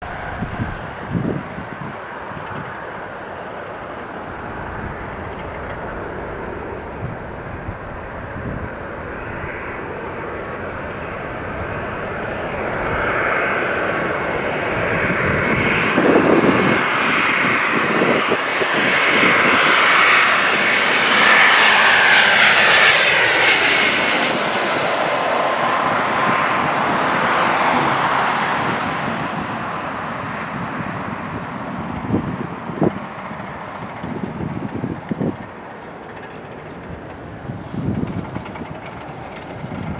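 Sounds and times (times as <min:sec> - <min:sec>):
jet airliner passing: 0:00.0 - 0:39.9.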